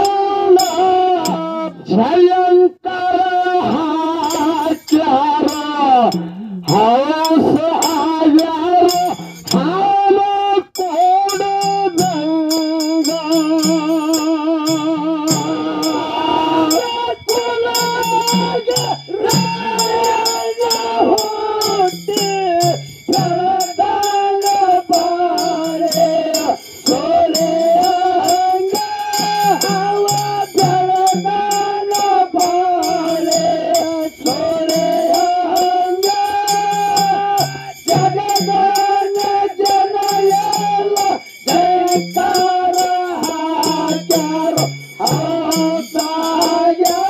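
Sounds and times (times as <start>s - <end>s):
jingling rattling percussion: 0.0s - 2.0s, 3.5s - 47.0s
person singing long notes: 0.0s - 47.0s.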